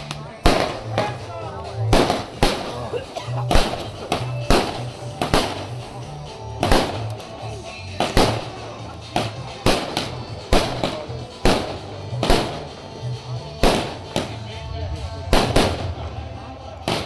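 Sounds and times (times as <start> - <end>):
fireworks bangs: 0.0 - 6.0, 6.6 - 7.4, 8.0 - 12.8, 13.6 - 17.0
music with heavy bass: 0.0 - 17.0.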